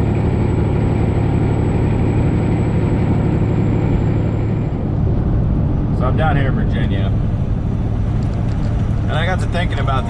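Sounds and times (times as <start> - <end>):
diesel truck engine droning: 0.0 - 10.0
road and wind noise: 0.0 - 10.0.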